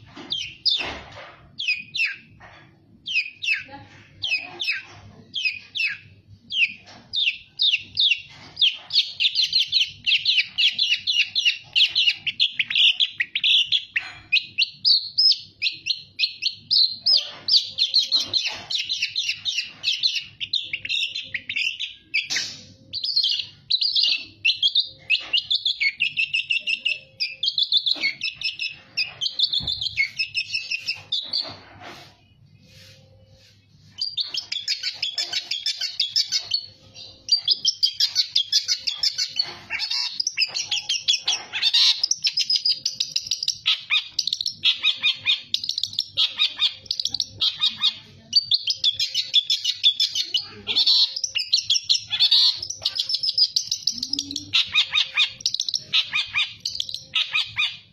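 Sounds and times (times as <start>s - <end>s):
bird singing chattering song: 0.0s - 57.9s.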